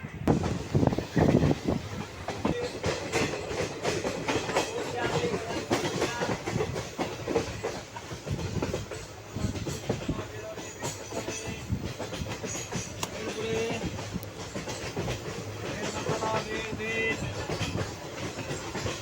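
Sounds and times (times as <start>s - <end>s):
train wheels clattering over rail joints: 0.1s - 19.0s.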